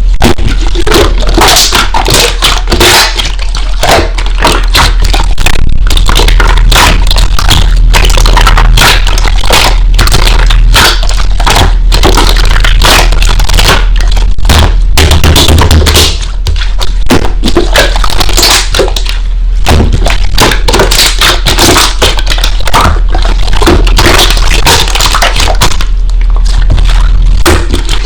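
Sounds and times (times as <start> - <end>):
slime crunching and crackling: 0.0 - 28.0.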